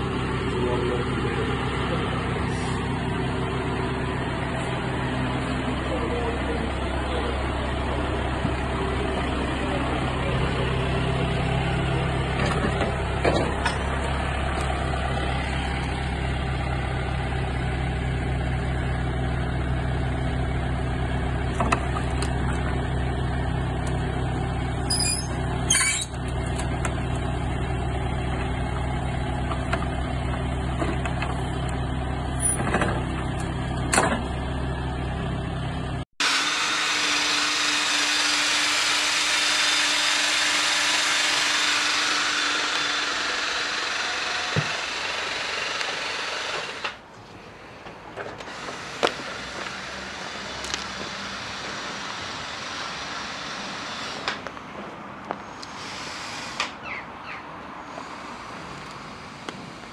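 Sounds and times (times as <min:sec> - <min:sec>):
tractor diesel engine running: 0:00.0 - 0:57.0, 0:57.8 - 0:59.9.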